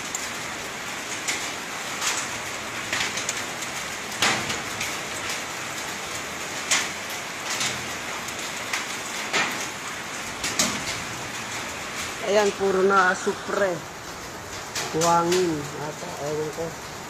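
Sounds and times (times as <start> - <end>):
ash and rain pattering: 0.0 - 17.0.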